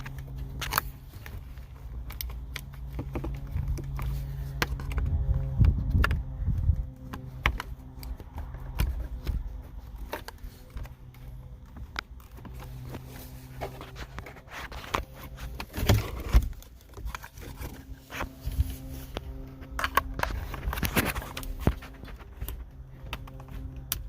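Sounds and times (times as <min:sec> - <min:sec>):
screwdriver clicking and scraping plastic: 0:00.0 - 0:24.0
steady low hum: 0:00.0 - 0:24.0.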